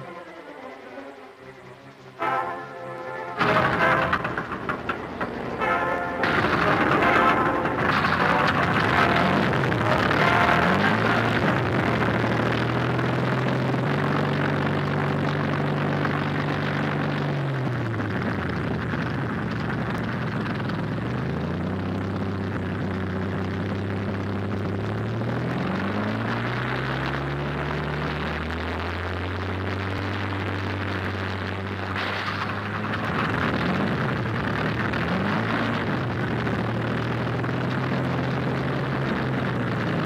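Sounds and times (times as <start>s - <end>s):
propeller aircraft engine roar: 0.0s - 40.0s.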